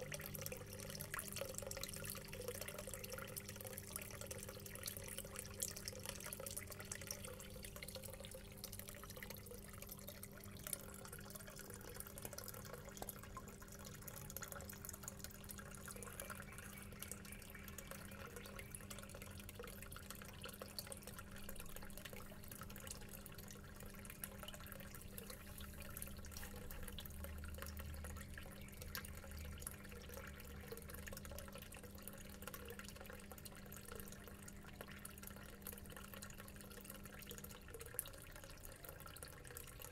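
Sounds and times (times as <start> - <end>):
aquarium water bubbling: 0.0 - 39.9
low steady hum: 0.0 - 39.9.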